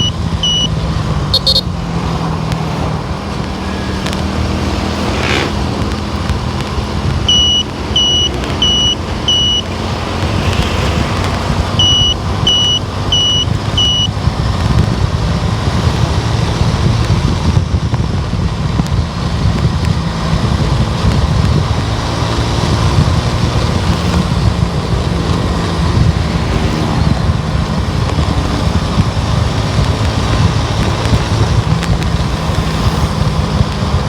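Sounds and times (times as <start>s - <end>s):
car engine hum: 0.0s - 34.0s
tyre and wind noise: 0.0s - 34.0s.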